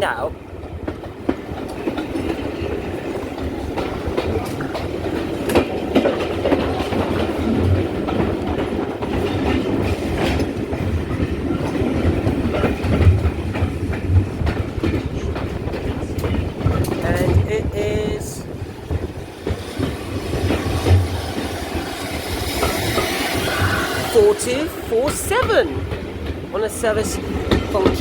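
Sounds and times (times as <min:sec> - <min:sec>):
train rumble: 0:00.0 - 0:28.0
train wheels clicking over rail joints: 0:00.6 - 0:17.5, 0:18.4 - 0:28.0.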